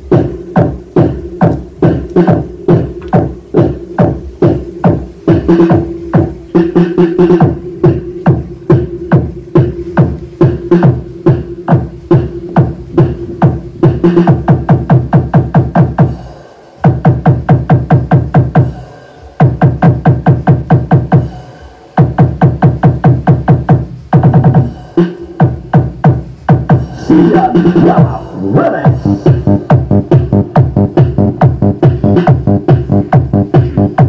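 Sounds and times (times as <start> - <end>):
electronic dance music: 0.0 - 34.0.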